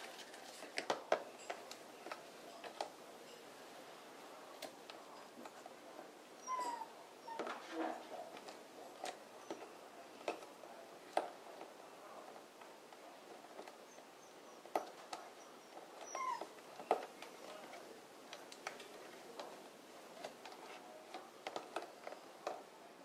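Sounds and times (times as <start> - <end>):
soft handling noise: 0.0 - 23.0.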